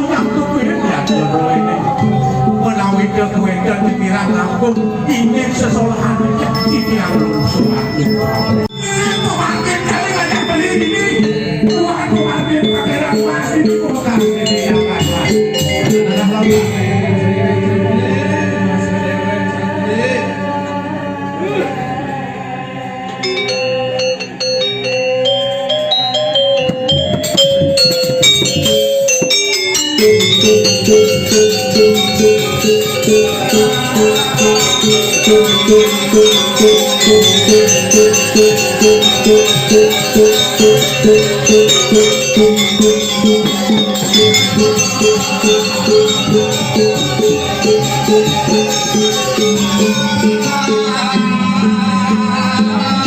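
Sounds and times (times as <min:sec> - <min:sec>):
instrumental music: 0:00.0 - 0:53.0.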